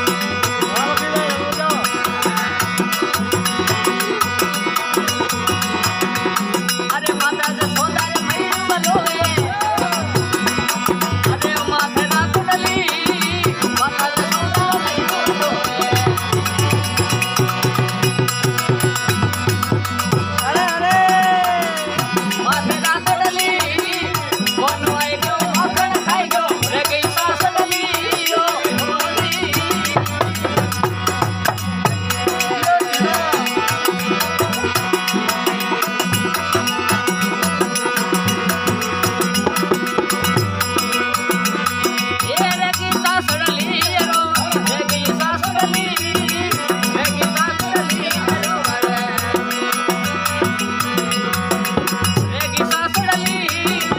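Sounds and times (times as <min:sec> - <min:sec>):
fast percussion: 0:00.0 - 0:53.9
wavering folk melody: 0:00.0 - 0:53.9.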